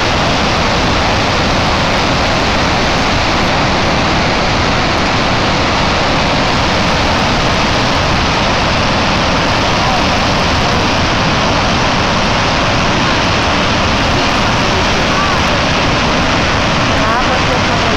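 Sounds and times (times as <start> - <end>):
rushing floodwater crashing: 0.0 - 17.9.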